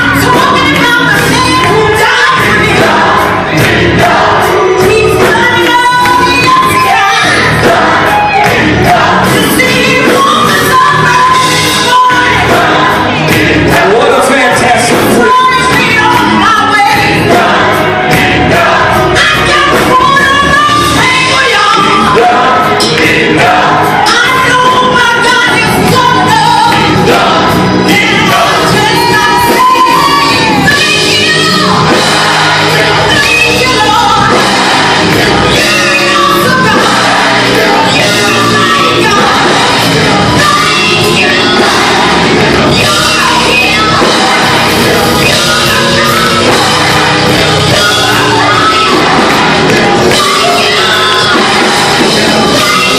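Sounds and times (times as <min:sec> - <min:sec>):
congregation singing a hymn: 0:00.0 - 0:52.9
instrumental accompaniment: 0:00.0 - 0:52.9.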